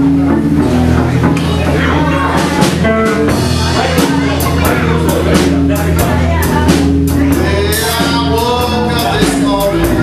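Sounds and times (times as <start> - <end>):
blues band playing: 0.0 - 10.0
drum and cymbal hits: 0.0 - 10.0.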